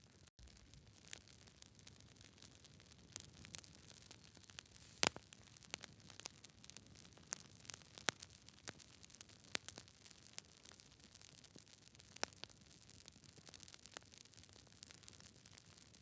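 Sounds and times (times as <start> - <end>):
campfire crackling and popping: 0.1 - 16.0.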